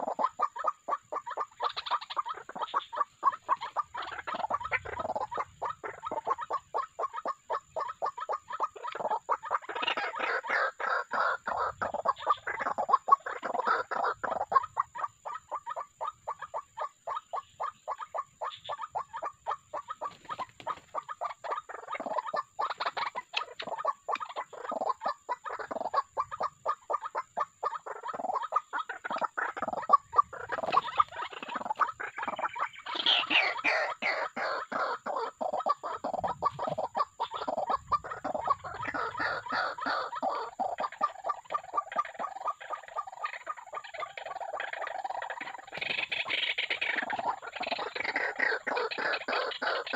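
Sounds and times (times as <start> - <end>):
waterhens clucking and croaking: 0.0 - 49.9.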